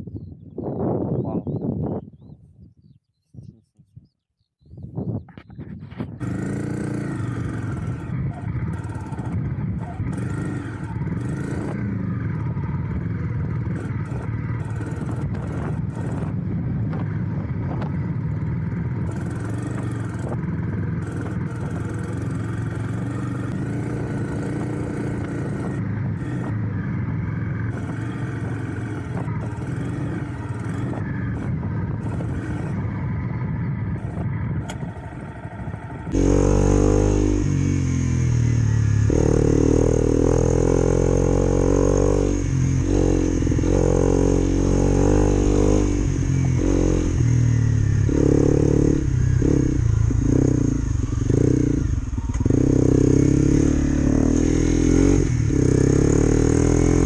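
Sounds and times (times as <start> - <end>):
motorcycle engine running: 5.4 - 57.0.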